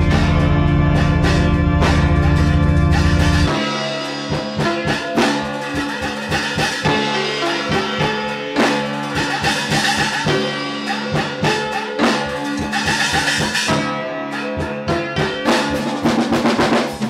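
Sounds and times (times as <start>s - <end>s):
sharp percussive hits: 0.0s - 17.0s.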